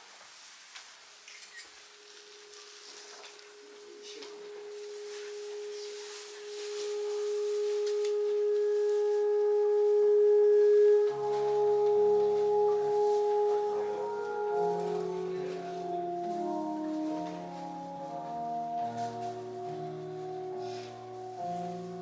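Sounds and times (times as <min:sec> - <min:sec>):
ambient music held tones: 0:01.1 - 0:22.0.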